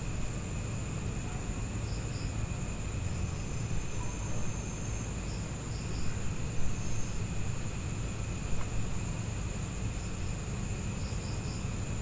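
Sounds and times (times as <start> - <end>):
crickets trilling: 0.0 - 8.3, 9.1 - 12.0.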